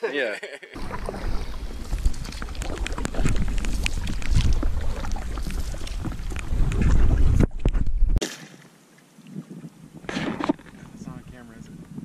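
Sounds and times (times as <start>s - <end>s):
wind buffeting microphone: 0.8s - 8.2s, 9.2s - 12.0s.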